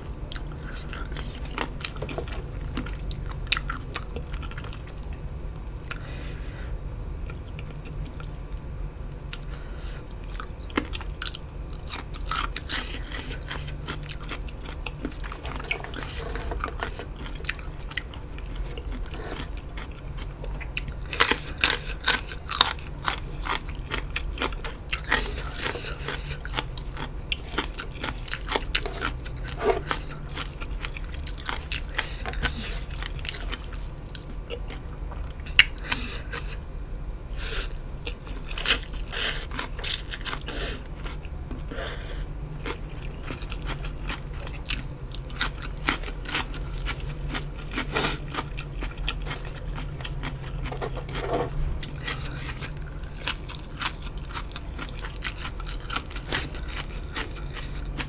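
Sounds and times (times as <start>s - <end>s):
person chewing and crunching food: 0.0s - 6.1s, 9.1s - 58.0s.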